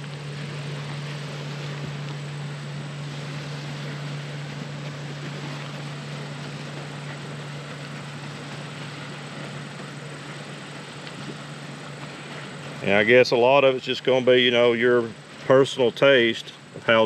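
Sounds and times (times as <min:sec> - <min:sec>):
constant hiss: 0:00.0 - 0:17.0
low mechanical motor hum: 0:00.0 - 0:17.0.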